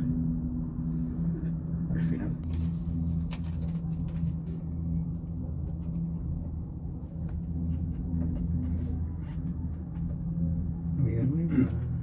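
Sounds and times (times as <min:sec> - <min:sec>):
cable car hum and rumble: 0:00.0 - 0:12.0.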